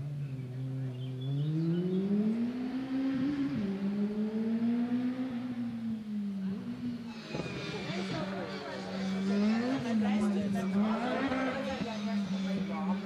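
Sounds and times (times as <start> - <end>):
racing engine accelerating: 0.0 - 13.0.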